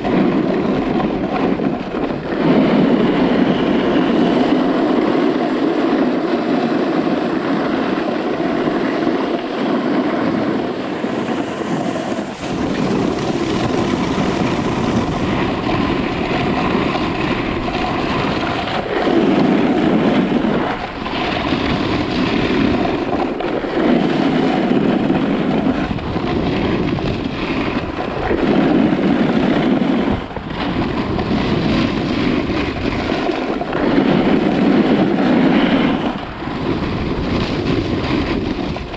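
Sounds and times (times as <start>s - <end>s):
ski edges scraping on snow: 0.0s - 38.9s
wind rushing over microphone: 0.0s - 38.9s.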